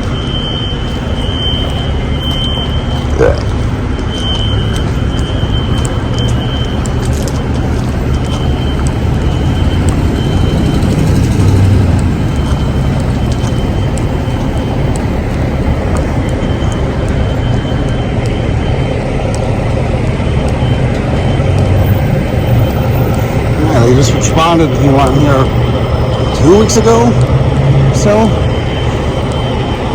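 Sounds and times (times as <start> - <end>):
fire alarm high steady tone: 0.0 - 29.9
low rumble of vehicle noise: 0.0 - 29.9.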